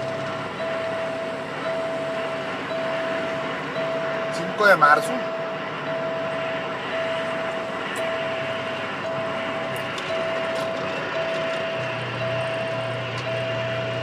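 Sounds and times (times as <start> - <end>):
high electronic beep: 0.0 - 14.0
low hum: 0.0 - 14.0
truck engine and road noise: 0.0 - 14.0.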